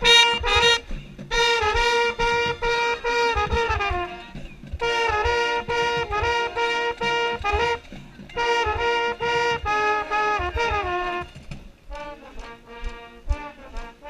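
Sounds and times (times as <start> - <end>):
marching band brass: 0.0 - 14.0.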